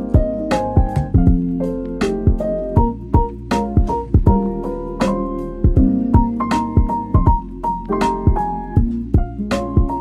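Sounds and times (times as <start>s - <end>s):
keyboard chords: 0.0s - 10.0s
steady drum beat: 0.0s - 10.0s.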